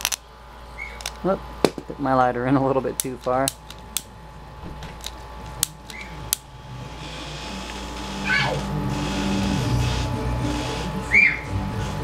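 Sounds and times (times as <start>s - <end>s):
transformer electrical hum: 0.0s - 12.0s.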